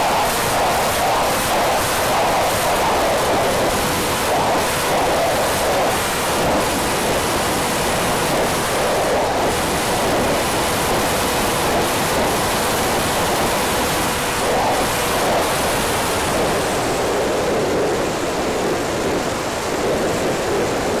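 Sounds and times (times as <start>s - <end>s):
rushing wind: 0.0s - 21.0s.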